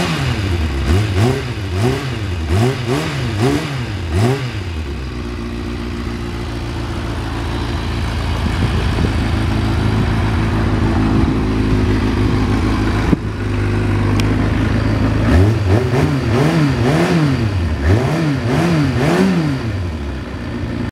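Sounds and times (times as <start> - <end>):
motorcycle engine idling and revving: 0.0 - 20.9.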